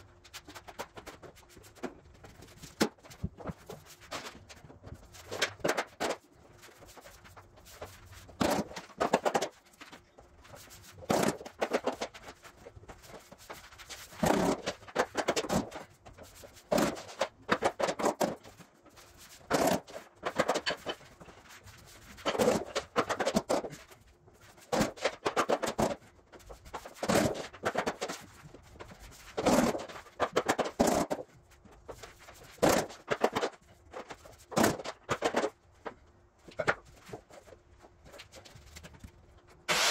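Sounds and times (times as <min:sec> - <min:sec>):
vinyl planks knocking and clattering: 0:00.2 - 0:39.2.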